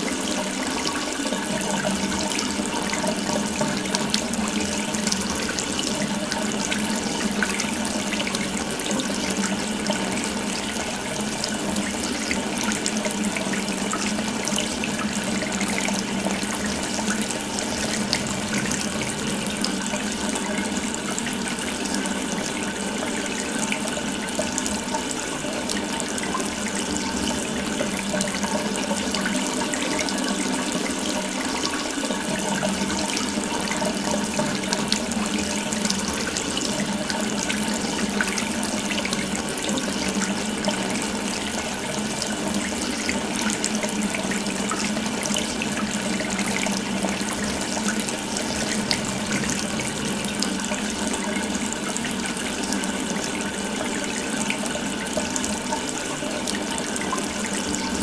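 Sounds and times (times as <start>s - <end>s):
tap water splashing into sink: 0.0s - 58.0s.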